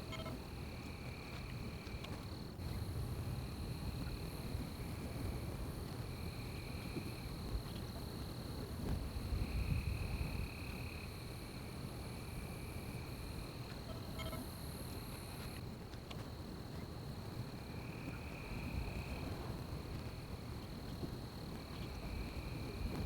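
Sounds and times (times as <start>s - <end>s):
lower insect trill: 0.0s - 15.6s, 17.0s - 23.0s.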